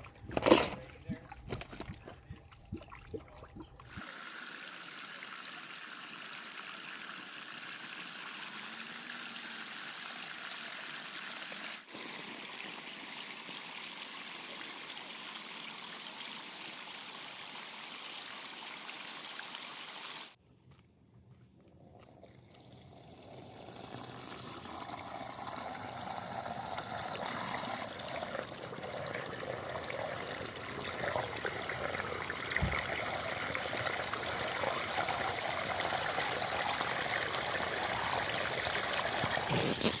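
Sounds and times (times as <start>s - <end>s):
stream water trickling: 0.0s - 20.1s, 21.8s - 40.0s.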